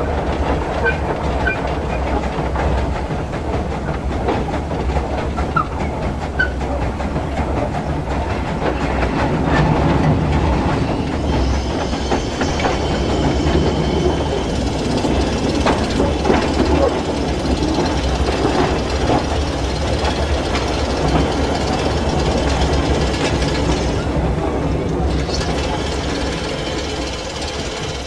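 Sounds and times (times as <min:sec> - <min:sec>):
steam locomotive rumble: 0:00.0 - 0:28.0
wheels rattling on track: 0:00.0 - 0:28.0.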